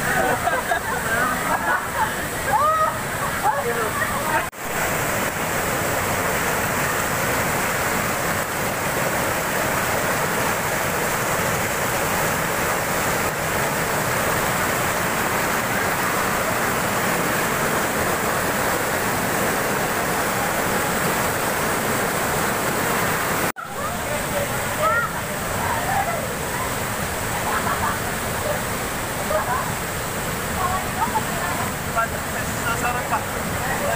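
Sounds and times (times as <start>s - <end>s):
waterfall rushing over boulders: 0.0s - 33.9s.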